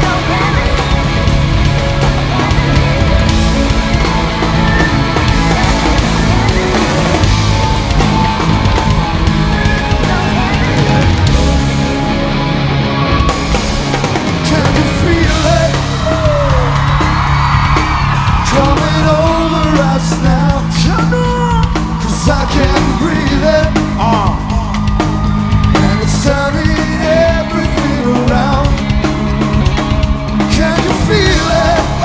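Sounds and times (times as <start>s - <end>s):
person singing: 0.0s - 11.6s, 14.1s - 17.2s, 18.4s - 32.0s
rock band playing: 0.0s - 32.0s.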